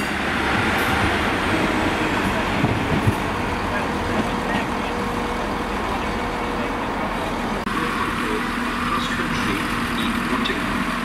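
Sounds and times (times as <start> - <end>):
diesel train engine drone: 0.0 - 11.0.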